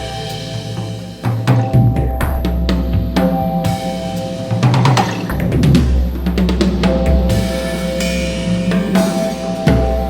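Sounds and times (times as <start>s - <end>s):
drum kit playing: 0.0s - 10.0s.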